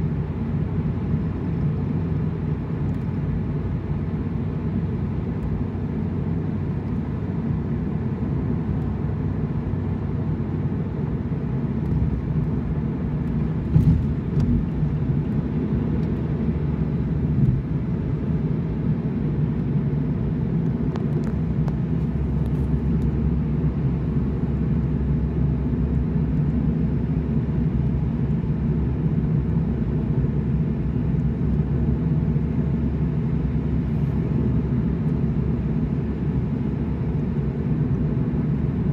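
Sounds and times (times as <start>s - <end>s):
car cabin road rumble: 0.0s - 38.9s.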